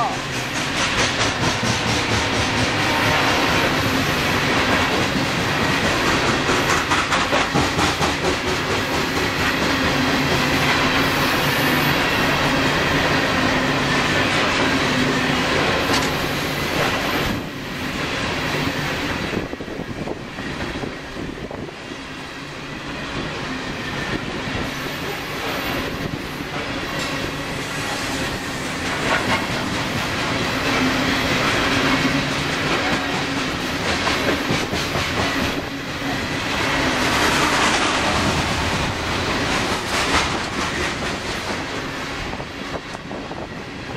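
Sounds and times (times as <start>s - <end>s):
steel wheels on rails: 0.0s - 43.9s.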